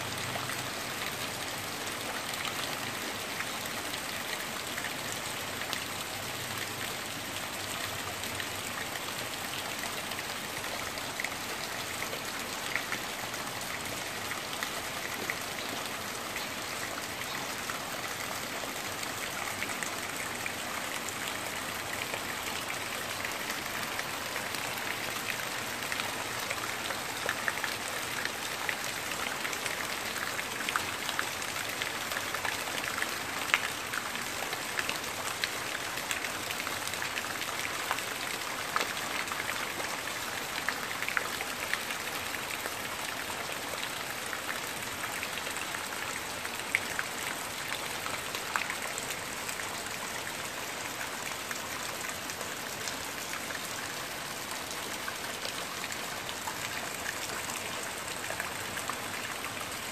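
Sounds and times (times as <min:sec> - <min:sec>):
rain falling on trees: 0:00.0 - 0:59.9.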